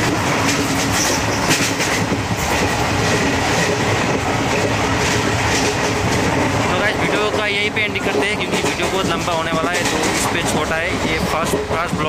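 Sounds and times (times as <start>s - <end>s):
train wheel clacks: 0.0s - 12.0s
train wheels rumbling on rails: 0.0s - 12.0s.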